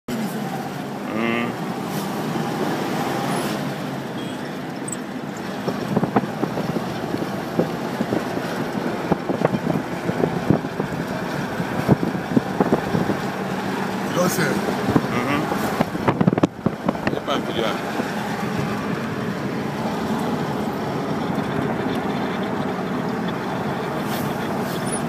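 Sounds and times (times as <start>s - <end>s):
car engine and road noise: 0.1s - 25.0s.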